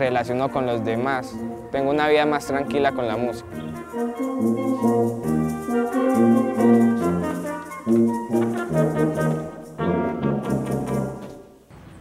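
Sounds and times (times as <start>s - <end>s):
instrumental ensemble music: 0.0s - 11.7s.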